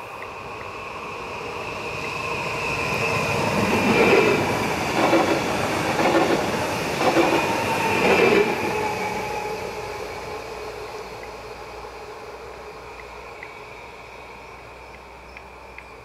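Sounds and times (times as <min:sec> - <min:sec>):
train high whine: 0:00.0 - 0:16.0.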